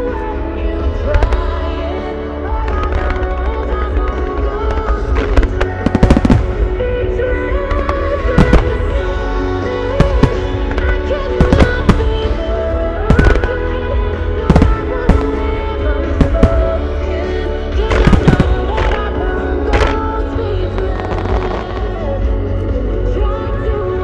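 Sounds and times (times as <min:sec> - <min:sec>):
music over loudspeakers: 0:00.0 - 0:24.0
fireworks bursting: 0:02.6 - 0:22.0.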